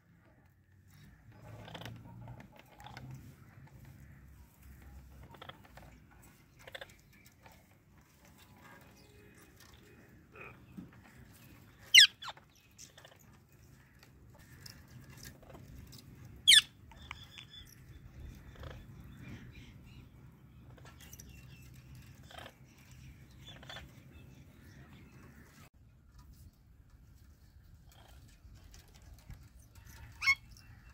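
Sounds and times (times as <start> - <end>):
parakeets clicking and nibbling: 0.2 - 19.8, 20.4 - 25.4, 26.1 - 30.9.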